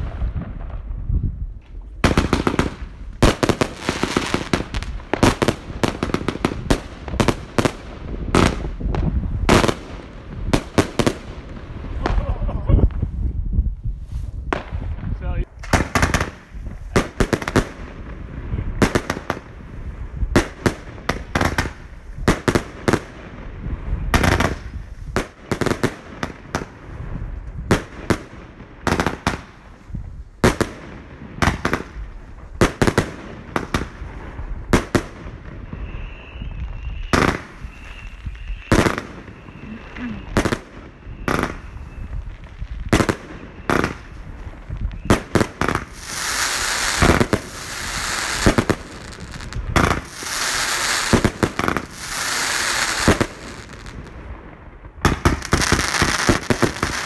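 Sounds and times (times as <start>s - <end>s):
firework bangs: 0.0s - 13.4s, 14.4s - 57.0s
firework crackle: 0.0s - 57.0s.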